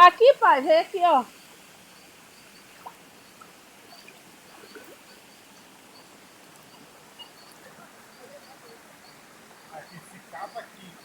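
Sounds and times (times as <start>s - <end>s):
stream flowing: 0.0s - 11.0s.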